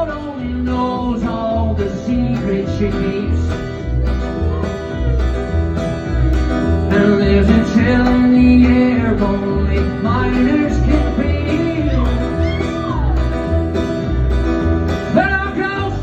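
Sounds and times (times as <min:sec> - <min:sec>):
bluegrass band playing: 0:00.0 - 0:16.0
sliding lead melody: 0:00.0 - 0:16.0.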